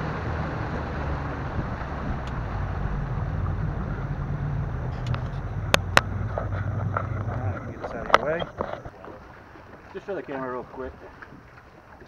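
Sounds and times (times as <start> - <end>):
outboard motor humming: 0.0 - 12.0
wind and water rushing: 0.0 - 12.0.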